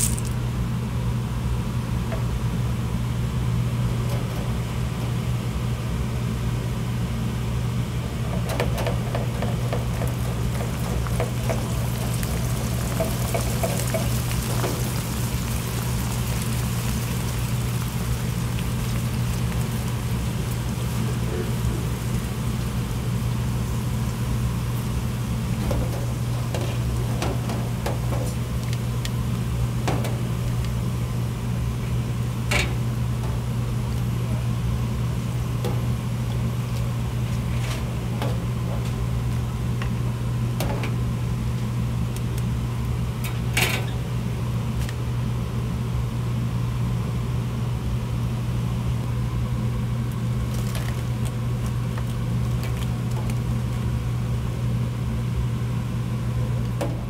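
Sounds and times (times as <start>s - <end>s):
kitchen equipment hum: 0.0s - 57.0s.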